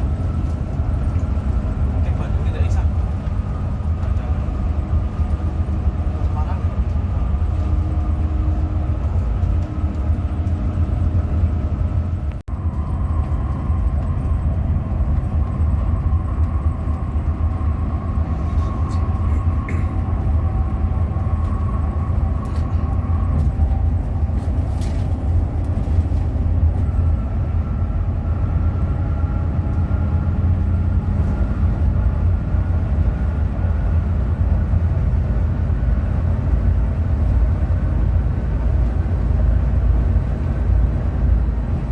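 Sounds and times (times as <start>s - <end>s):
bus engine and road rumble: 0.0s - 41.9s.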